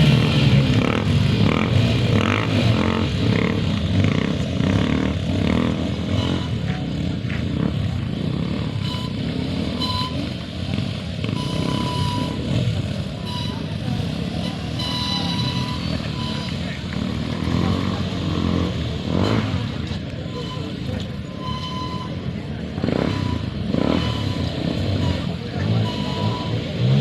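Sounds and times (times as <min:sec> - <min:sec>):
motorcycle engines rumbling: 0:00.0 - 0:27.0.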